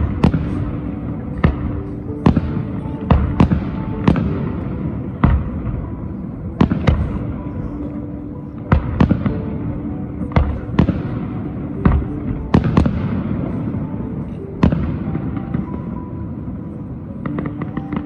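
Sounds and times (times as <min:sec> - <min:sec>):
low rumble of fireworks: 0:00.0 - 0:18.0.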